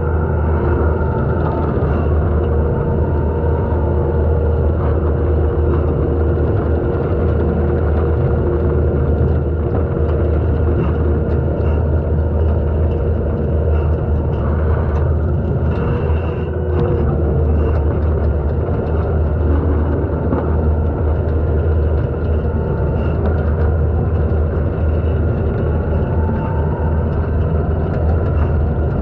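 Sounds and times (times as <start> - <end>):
diesel engine droning: 0.0 - 29.0
faint steady whine: 0.0 - 29.0.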